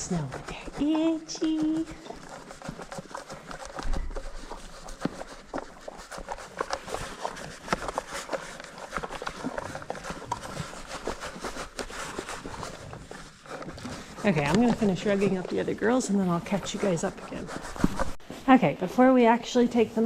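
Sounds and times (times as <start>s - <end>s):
hooves knocking on barn floor: 0.0s - 18.4s.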